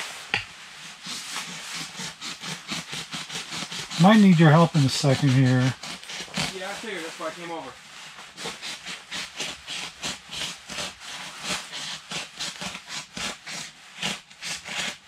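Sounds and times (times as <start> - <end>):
knife sawing through canvas: 0.8 - 7.5, 8.2 - 15.0.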